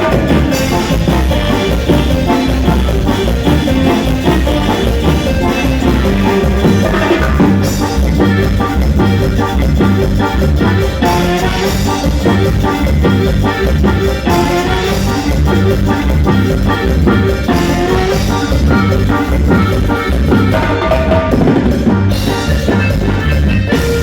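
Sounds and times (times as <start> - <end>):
latin dance music: 0.0 - 24.0.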